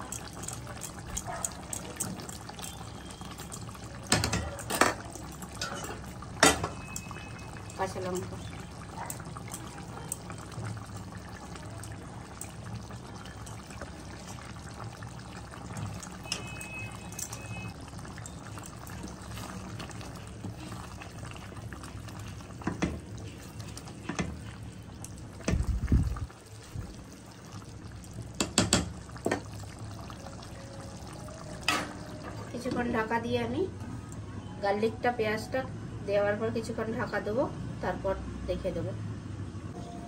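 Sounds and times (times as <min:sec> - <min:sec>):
gravy bubbling in a pan: 0:00.0 - 0:34.2.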